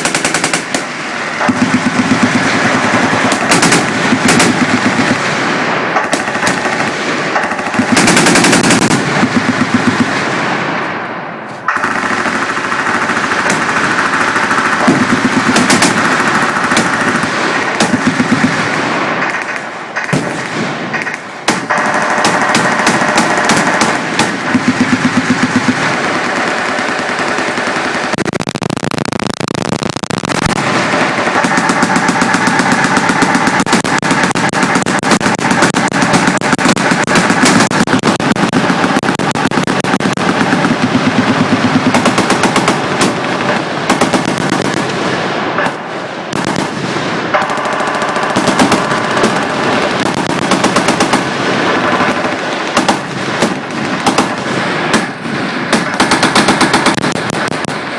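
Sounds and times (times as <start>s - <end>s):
machine guns firing: 0.0s - 10.8s, 11.6s - 57.9s.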